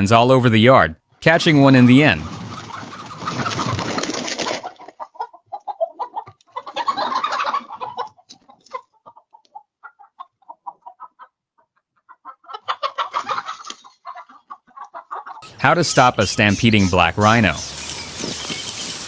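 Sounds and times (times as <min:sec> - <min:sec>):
chickens clucking and squawking: 0:02.2 - 0:19.0.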